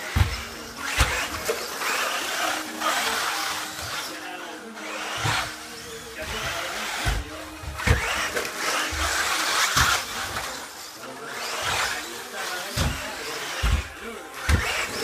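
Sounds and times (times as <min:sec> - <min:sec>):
electric toy car motor whine: 0:00.0 - 0:15.0.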